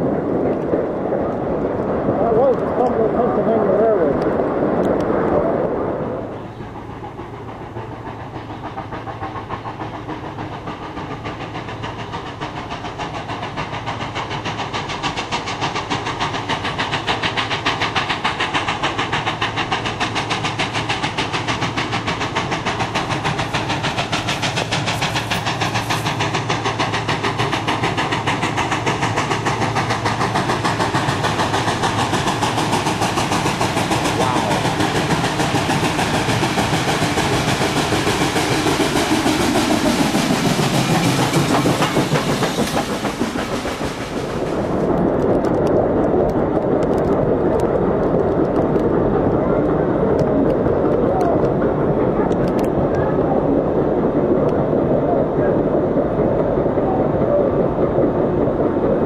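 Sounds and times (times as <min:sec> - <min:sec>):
steam locomotive exhaust pulsing: 0:00.0 - 0:59.0.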